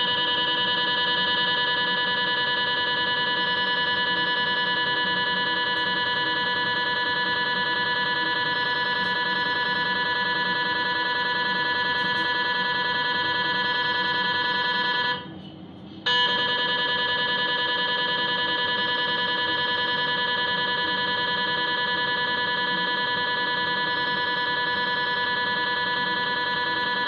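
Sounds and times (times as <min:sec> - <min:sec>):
mri scanner buzzing: 0:00.0 - 0:15.4, 0:16.1 - 0:27.0.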